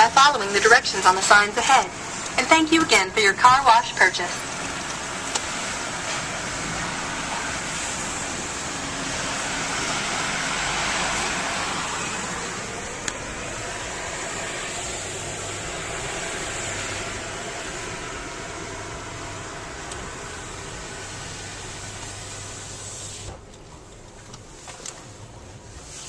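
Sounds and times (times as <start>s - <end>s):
car engine idling: 0.0s - 25.9s
car wash hiss: 0.1s - 23.6s, 24.4s - 26.0s.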